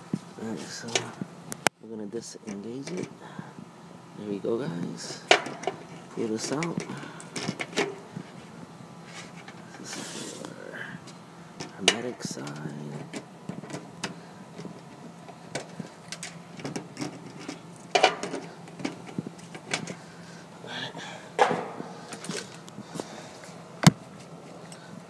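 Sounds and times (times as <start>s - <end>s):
handling clicks knocks and rustles: 0.0s - 1.8s, 2.4s - 3.2s, 4.8s - 20.2s, 21.4s - 25.0s
faint steady hum: 0.0s - 25.0s.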